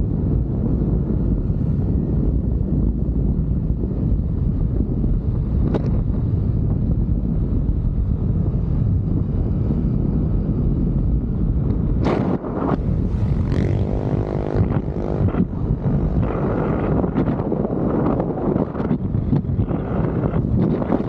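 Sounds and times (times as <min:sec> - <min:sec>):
vehicle travelling on road: 0:00.0 - 0:21.0
wind buffeting microphone: 0:00.0 - 0:21.0.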